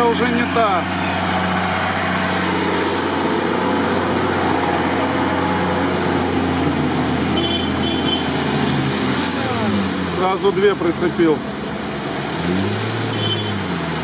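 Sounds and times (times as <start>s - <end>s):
water churning around wheels: 0.0s - 14.0s.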